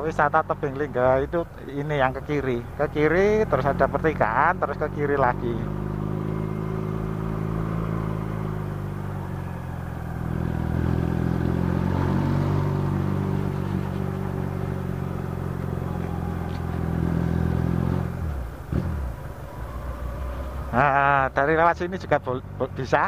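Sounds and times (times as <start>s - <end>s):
motorcycle engine running: 0.0s - 21.3s.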